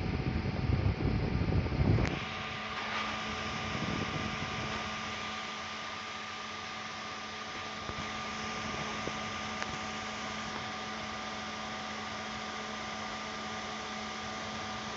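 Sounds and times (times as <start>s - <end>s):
high-pitched whine: 0.0s - 14.9s
electrical hiss: 1.9s - 14.9s.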